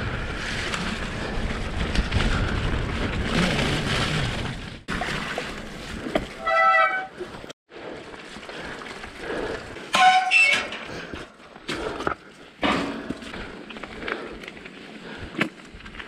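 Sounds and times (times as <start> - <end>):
bike tyre and trail noise: 0.0 - 16.0.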